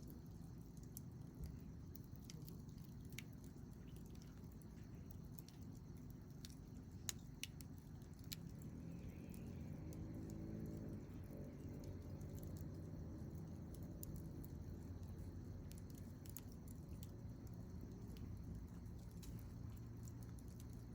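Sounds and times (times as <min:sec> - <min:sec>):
campfire rumbling: 0:00.0 - 0:20.9
fire crackles and pops: 0:00.0 - 0:20.9.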